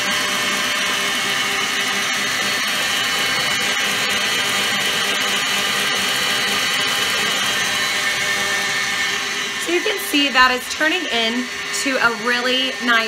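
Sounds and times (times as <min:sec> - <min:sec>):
stand mixer motor whining: 0:00.0 - 0:13.0.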